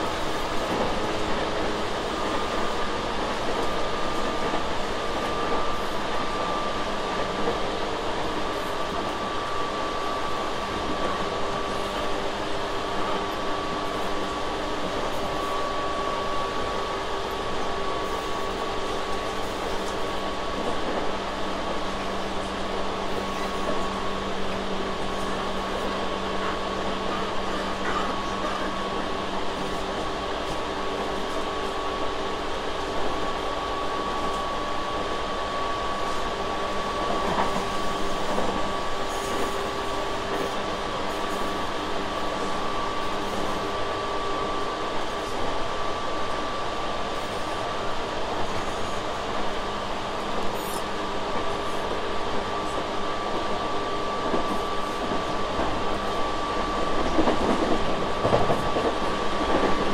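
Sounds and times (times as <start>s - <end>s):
train car rumbling: 0.0s - 59.9s.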